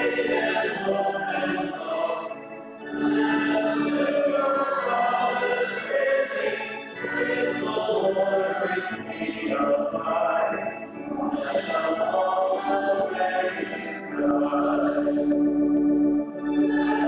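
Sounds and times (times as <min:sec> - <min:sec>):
group singing a slow hymn: 0:00.0 - 0:15.5, 0:16.4 - 0:17.0.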